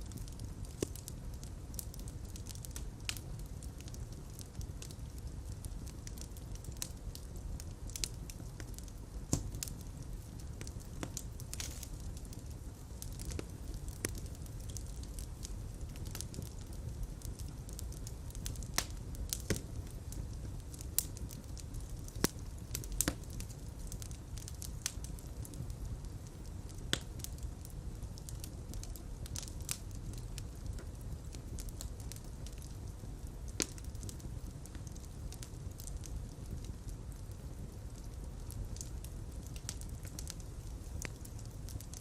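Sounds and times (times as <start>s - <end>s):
fire crackling and popping: 0.0s - 42.0s
low rumble of flames: 0.0s - 42.0s.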